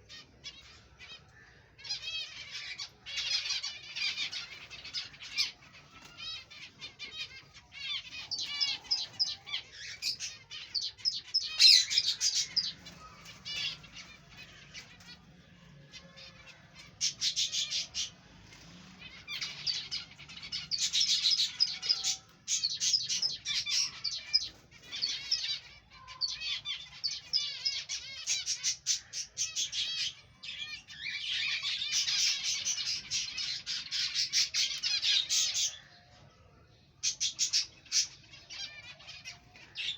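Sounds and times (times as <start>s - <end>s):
finches chirping: 0.0s - 36.0s, 37.0s - 39.9s.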